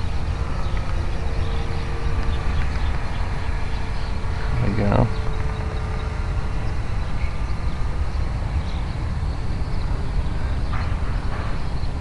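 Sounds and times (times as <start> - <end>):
distant model plane motor whine: 0.0 - 12.0
wind buffeting microphone: 0.0 - 12.0.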